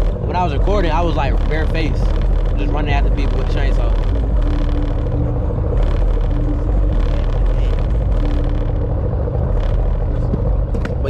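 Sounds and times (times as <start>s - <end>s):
faint intermittent hum: 0.0s - 11.0s
steady low rumble: 0.0s - 11.0s.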